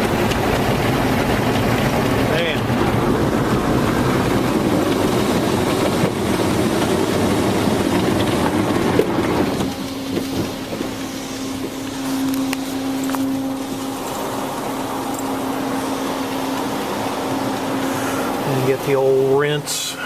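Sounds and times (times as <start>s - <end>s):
car wash spraying and scrubbing: 0.0s - 20.0s
steady hum: 0.0s - 20.0s.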